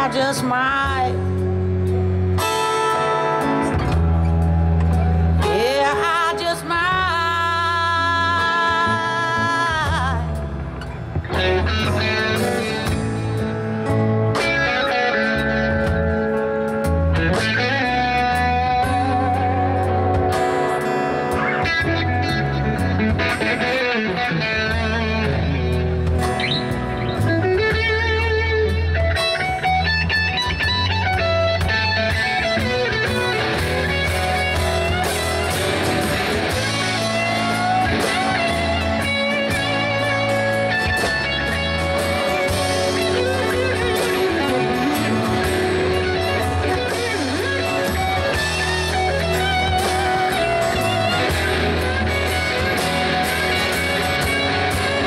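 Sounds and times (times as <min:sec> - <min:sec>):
bass guitar: 0:00.0 - 0:55.0
drums: 0:00.0 - 0:55.0
electric guitar lead line: 0:00.0 - 0:55.0
strummed guitars: 0:00.0 - 0:55.0.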